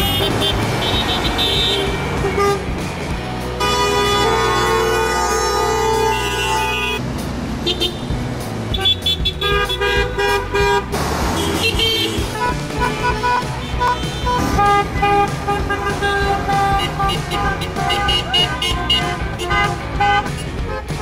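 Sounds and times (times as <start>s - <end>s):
car horns honking: 0.0s - 7.0s, 7.6s - 8.1s, 8.7s - 21.0s.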